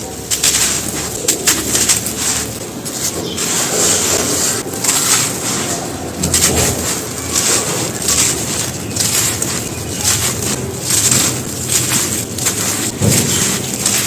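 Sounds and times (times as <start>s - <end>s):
brittle material crunching by hand: 0.0s - 14.0s.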